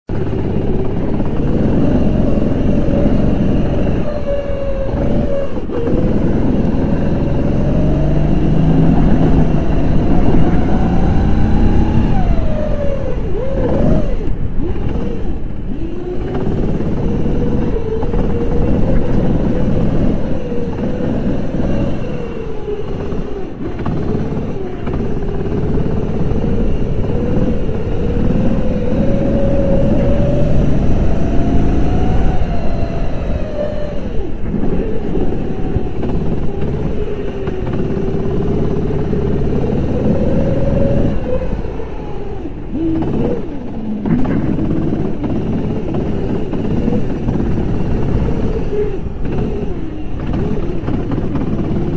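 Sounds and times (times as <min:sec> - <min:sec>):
kart engine revving: 0:00.1 - 0:51.9.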